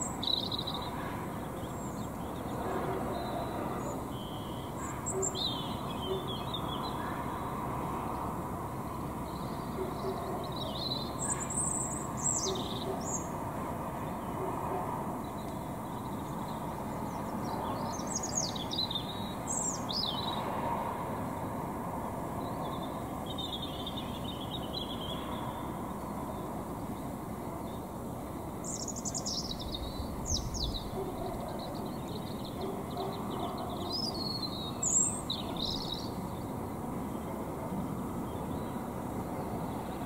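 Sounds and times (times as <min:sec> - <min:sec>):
distant traffic rumble: 0:00.0 - 0:40.0
songbird singing: 0:00.0 - 0:40.0.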